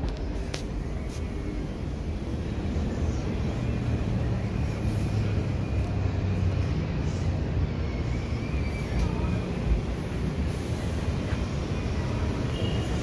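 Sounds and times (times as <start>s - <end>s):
electric train running slowly: 0.0s - 13.0s.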